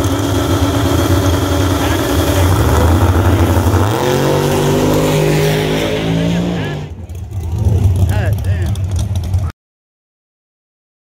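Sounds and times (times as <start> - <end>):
drag racing car engines revving: 0.0 - 9.5.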